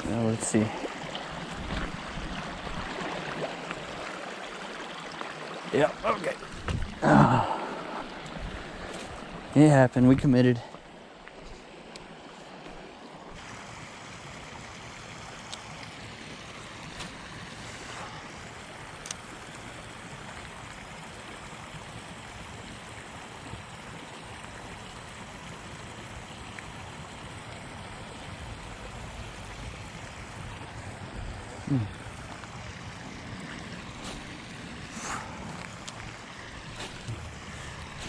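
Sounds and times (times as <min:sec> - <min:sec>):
steady rushing outdoor hiss: 0:00.0 - 0:38.0.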